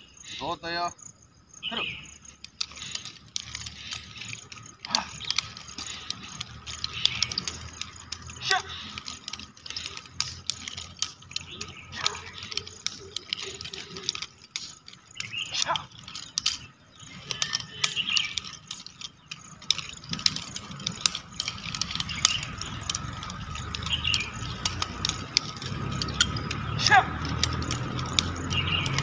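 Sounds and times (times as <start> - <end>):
nunchaku chain rattling and clicking: 0.2 - 29.0.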